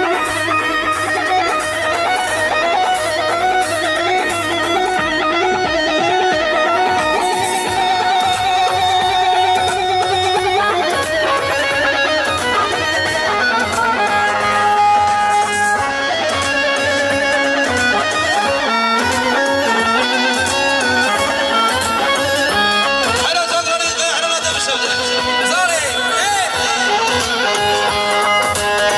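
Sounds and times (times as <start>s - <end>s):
instrumental folk music: 0.0s - 28.9s.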